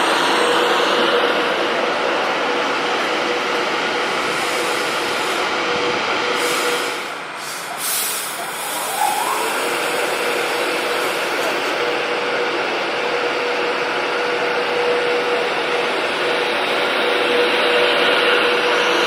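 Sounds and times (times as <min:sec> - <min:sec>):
train rumbling and hissing: 0:00.0 - 0:19.0.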